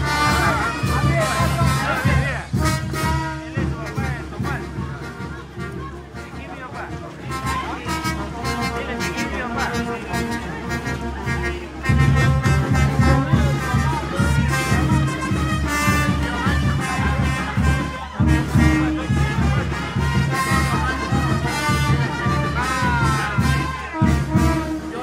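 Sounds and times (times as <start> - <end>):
brass band music: 0.0 - 25.0.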